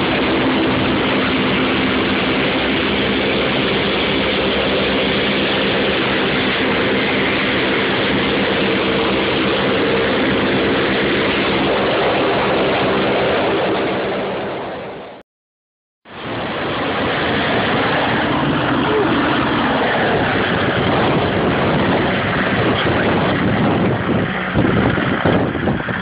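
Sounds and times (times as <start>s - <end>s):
helicopter rotor and engine: 0.0s - 15.2s, 16.1s - 26.0s
wind buffeting microphone: 0.0s - 15.2s, 16.1s - 26.0s.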